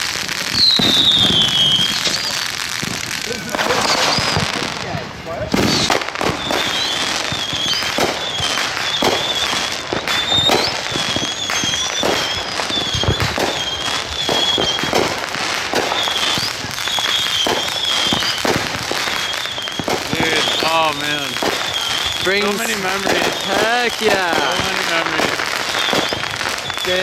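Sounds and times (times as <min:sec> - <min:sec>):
high wavering firework whistle: 0:00.0 - 0:04.9, 0:05.5 - 0:27.0
fireworks bangs and pops: 0:00.0 - 0:27.0.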